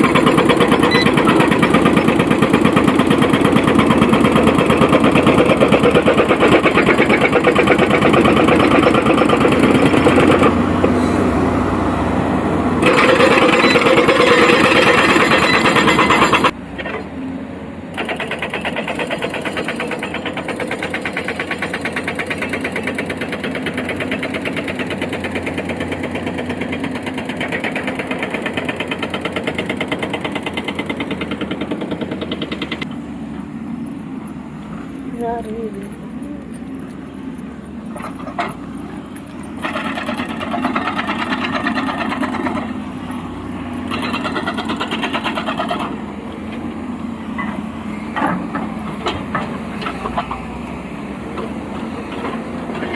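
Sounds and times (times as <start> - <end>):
excavator diesel engine pulsing: 0.0 - 52.9.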